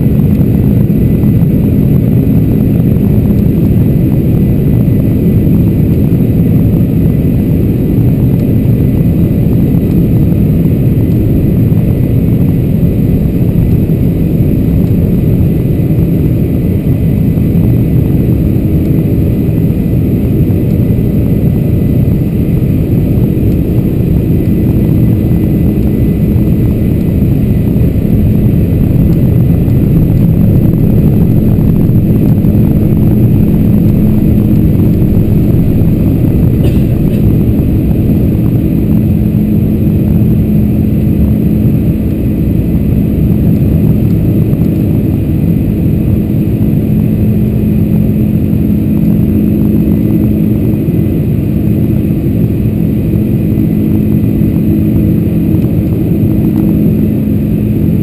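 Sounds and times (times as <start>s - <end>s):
jet engine noise in cabin: 0.0s - 58.0s
low steady hum: 0.0s - 58.0s.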